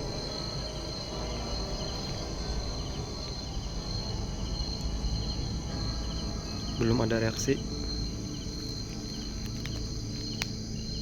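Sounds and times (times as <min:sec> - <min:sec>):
crickets trilling: 0:00.0 - 0:11.0
faint insect chirps: 0:00.0 - 0:11.0
low background rumble: 0:00.0 - 0:11.0.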